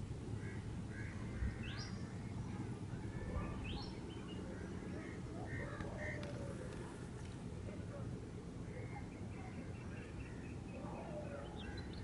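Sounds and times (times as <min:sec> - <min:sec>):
birds chirping: 0:00.3 - 0:07.3, 0:08.6 - 0:12.0.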